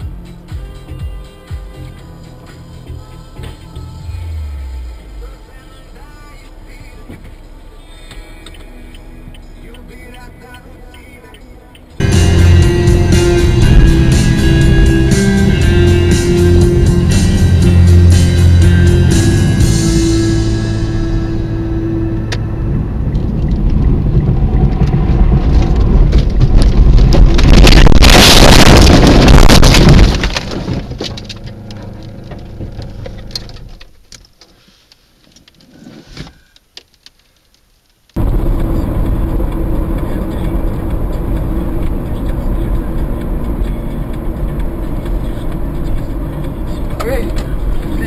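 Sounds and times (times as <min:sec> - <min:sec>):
in-car road and engine noise: 0:00.0 - 0:48.0.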